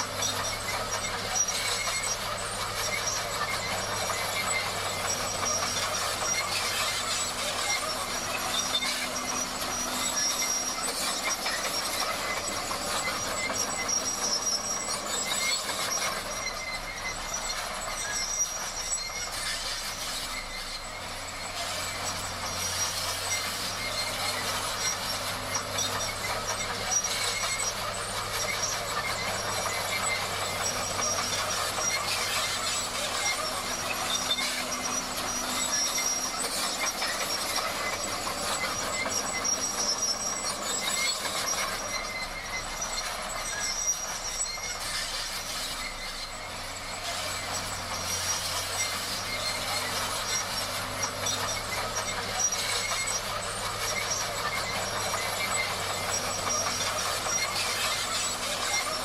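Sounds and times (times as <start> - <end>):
bulldozer diesel engine: 0.0 - 59.0
steel tracks clanking: 0.0 - 59.0.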